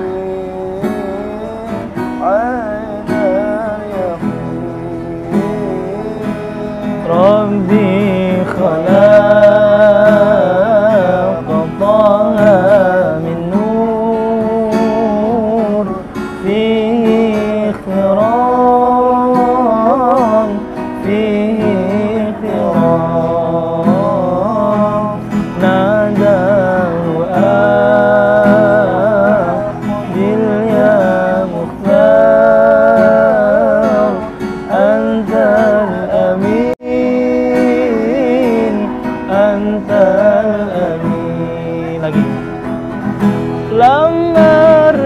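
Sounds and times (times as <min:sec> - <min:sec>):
person singing: 0:00.0 - 0:42.7, 0:43.6 - 0:45.0
acoustic guitar strumming: 0:00.0 - 0:45.0.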